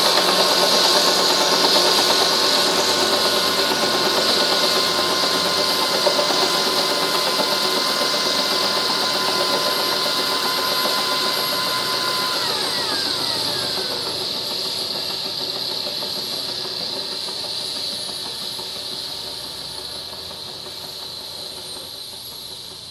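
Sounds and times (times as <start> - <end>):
helicopter turbine whine: 0.0 - 22.9.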